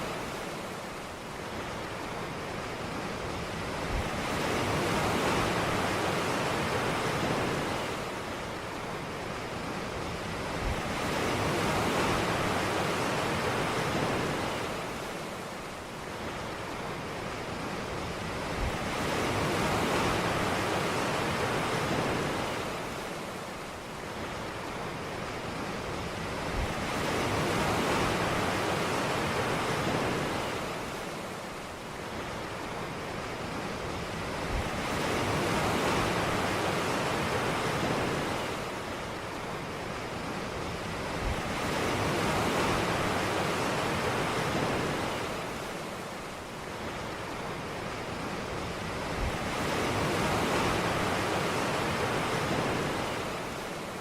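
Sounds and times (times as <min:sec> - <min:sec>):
ocean surf rushing: 0:00.0 - 0:54.0.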